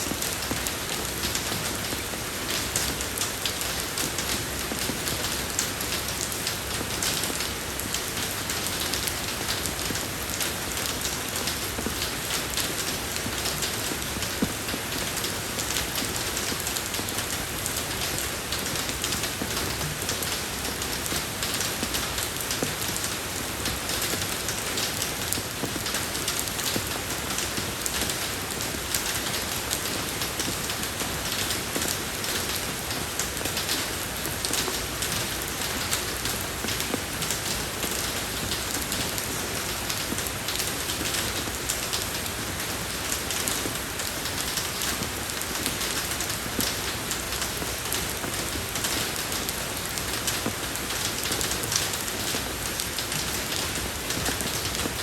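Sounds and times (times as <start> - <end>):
rain falling on a road: 0.0 - 55.0.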